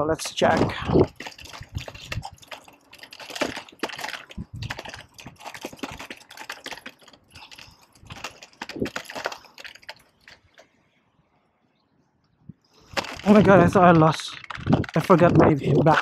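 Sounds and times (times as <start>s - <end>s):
bike rattling over paving: 0.0s - 10.8s, 12.8s - 16.0s.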